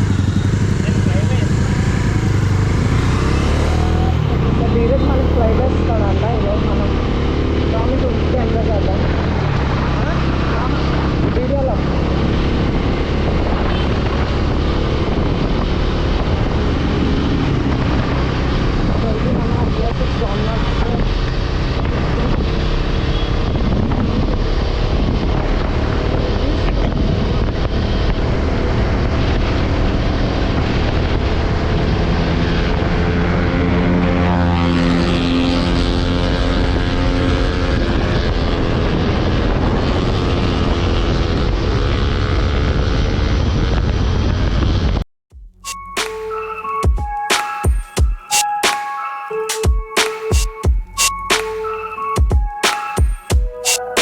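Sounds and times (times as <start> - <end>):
wind noise on microphone: 0.0 - 45.0
motorcycle engine running: 0.0 - 45.7.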